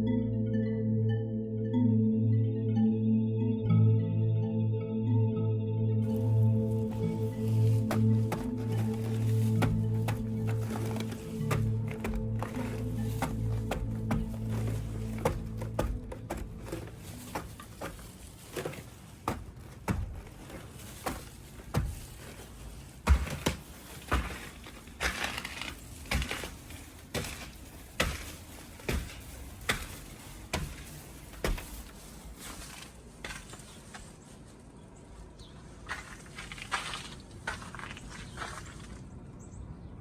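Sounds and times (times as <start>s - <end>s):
footsteps crunching on icy snow: 6.0s - 39.0s.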